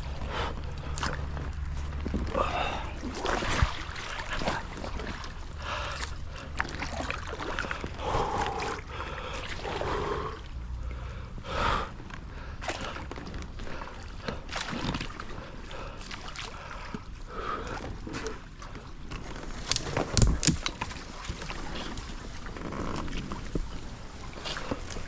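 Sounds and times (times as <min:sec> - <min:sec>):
paddle splashing in water: 0:00.1 - 0:10.7, 0:12.6 - 0:25.0.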